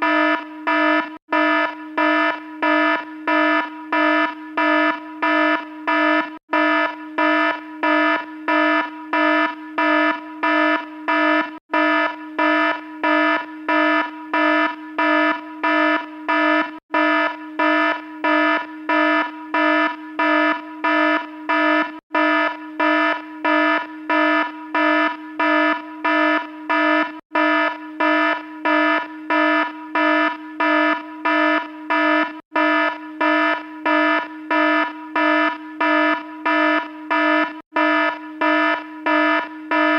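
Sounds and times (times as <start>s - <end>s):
alarm beeping: 0.0s - 39.9s.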